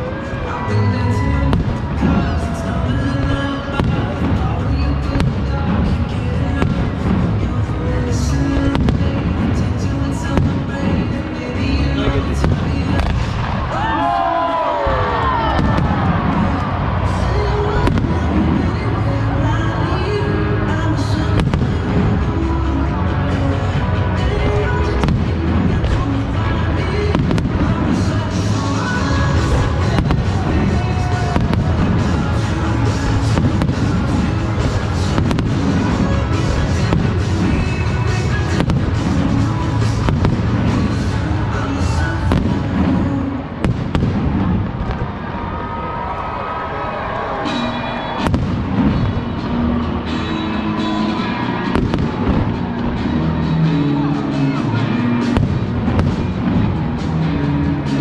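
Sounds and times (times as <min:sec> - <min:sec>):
firework bangs: 0:00.0 - 0:45.7, 0:47.4 - 0:58.0
low rumble: 0:00.0 - 0:46.0, 0:48.2 - 0:58.0
firework crackling: 0:00.0 - 0:46.2, 0:47.3 - 0:58.0
loud music: 0:00.0 - 0:58.0.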